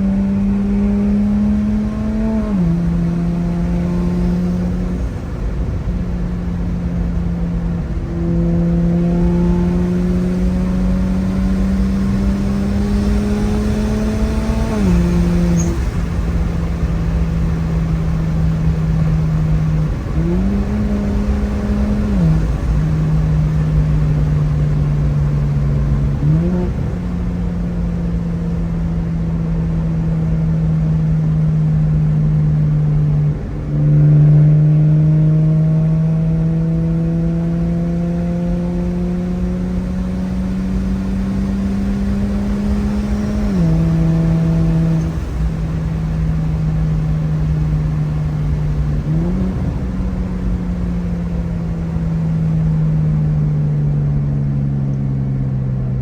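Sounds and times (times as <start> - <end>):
car engine running: 0.0 - 56.0
road noise: 0.0 - 56.0.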